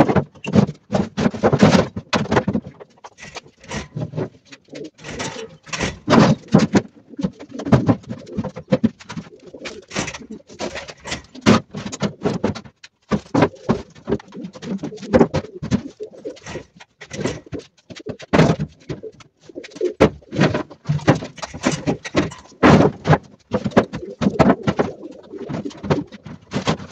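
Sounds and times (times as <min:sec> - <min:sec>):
cardboard boxes knocking and rustling: 0:00.0 - 0:26.9
pigeons cooing: 0:02.8 - 0:12.4, 0:13.2 - 0:22.8, 0:23.5 - 0:26.3.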